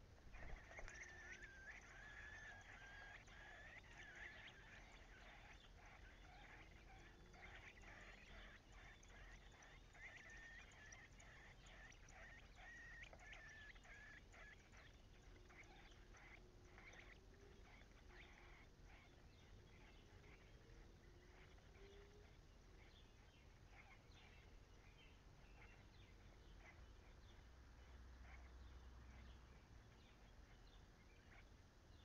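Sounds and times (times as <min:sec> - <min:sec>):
nestlings cheeping: 0:00.0 - 0:27.4.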